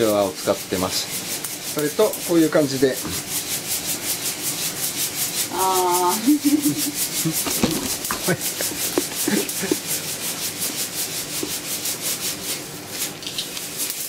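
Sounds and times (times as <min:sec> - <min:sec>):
coffee beans rattling in mesh roaster: 0:00.0 - 0:14.0.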